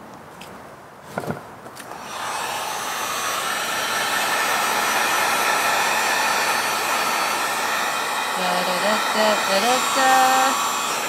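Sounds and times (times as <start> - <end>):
heat gun blowing: 1.8 - 11.0.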